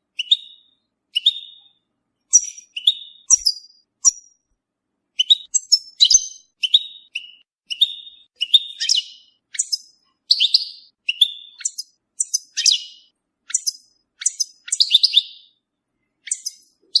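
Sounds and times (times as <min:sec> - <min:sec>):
bird twittering: 0:00.2 - 0:04.3, 0:05.2 - 0:15.6, 0:16.2 - 0:17.0.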